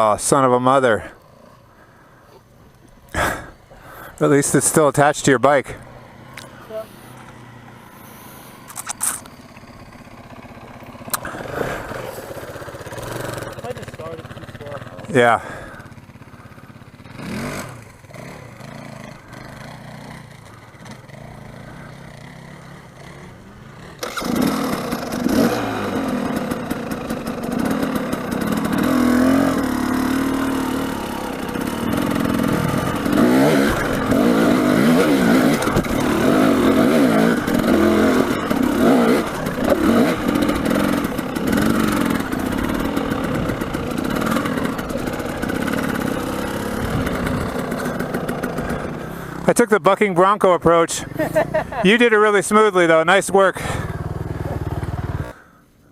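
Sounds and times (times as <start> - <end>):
dirt bike engine revving: 3.1 - 55.5.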